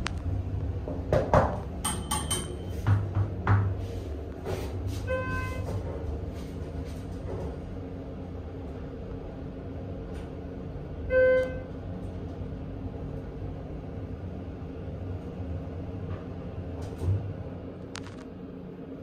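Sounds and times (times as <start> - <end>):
elevator hum: 0.0 - 19.0.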